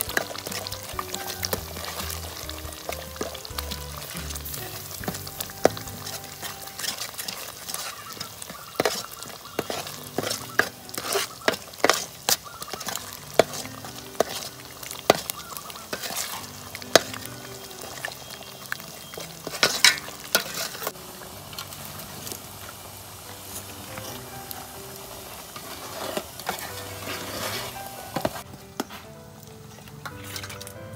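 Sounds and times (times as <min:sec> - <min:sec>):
metal ladle scraping pot: 0:00.0 - 0:22.6, 0:23.5 - 0:24.4, 0:25.0 - 0:28.9, 0:29.7 - 0:30.8
cooking pot hissing: 0:00.0 - 0:29.2.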